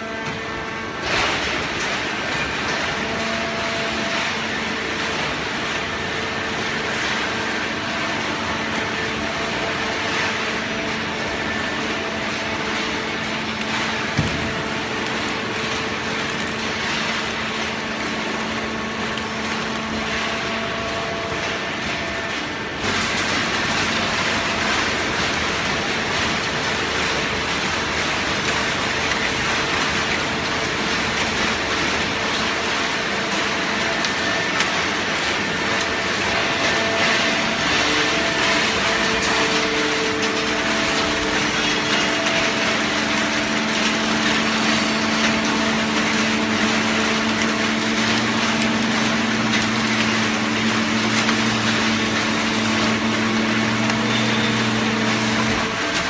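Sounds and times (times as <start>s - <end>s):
baler machine running: 0.0s - 56.0s.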